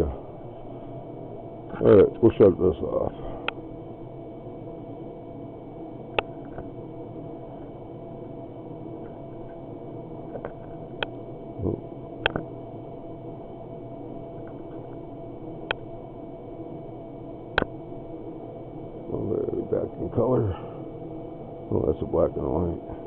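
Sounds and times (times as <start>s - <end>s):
electronic hum with faint whine: 0.0s - 23.0s.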